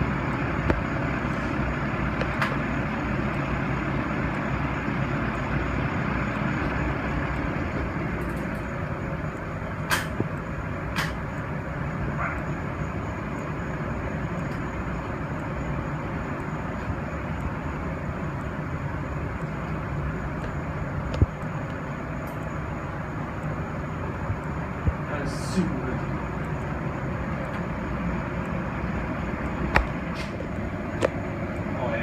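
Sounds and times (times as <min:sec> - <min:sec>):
electric fan humming: 0:00.0 - 0:32.0.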